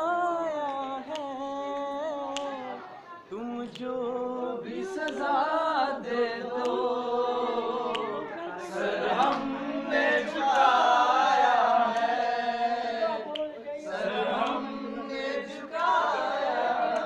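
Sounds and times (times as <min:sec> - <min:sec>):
young men singing without instruments: 0:00.0 - 0:17.0.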